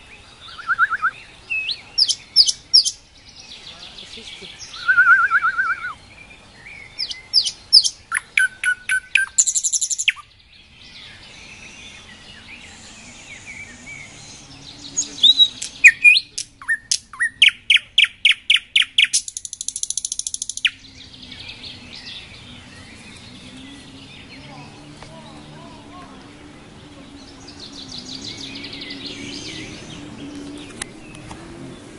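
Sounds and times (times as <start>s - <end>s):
nightingale singing: 0.0s - 31.9s.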